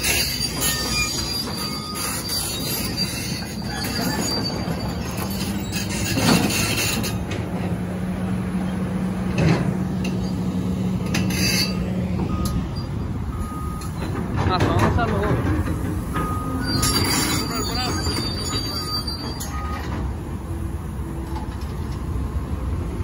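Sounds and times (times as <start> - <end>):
excavator diesel engines droning: 0.0 - 23.0.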